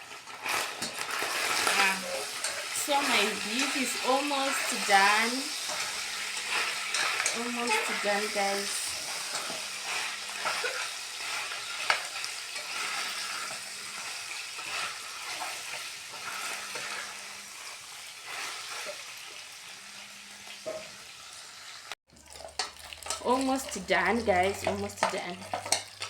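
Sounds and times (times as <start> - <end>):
meat sizzling in hot oil: 0.0 - 26.0.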